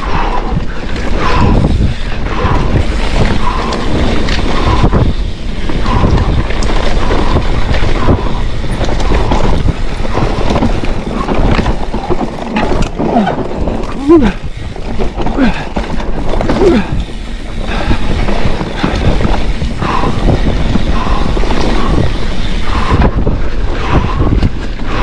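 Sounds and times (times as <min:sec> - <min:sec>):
bike knocking and rattling: 0:00.0 - 0:25.0
bike tyres on dirt: 0:00.0 - 0:25.0
wind buffeting microphone: 0:00.0 - 0:25.0.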